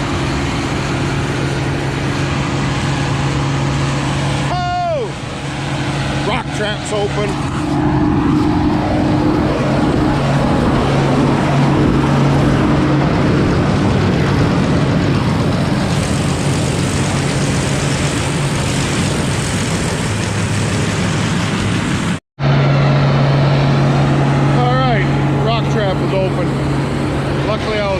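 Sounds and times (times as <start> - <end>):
combine harvester engine drone: 0.0 - 27.9
threshing machinery rushing: 0.0 - 27.9.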